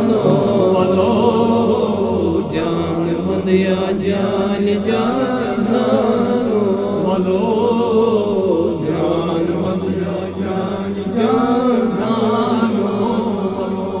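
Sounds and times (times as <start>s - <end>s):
man singing: 0.0s - 14.0s
steady drone: 0.0s - 14.0s.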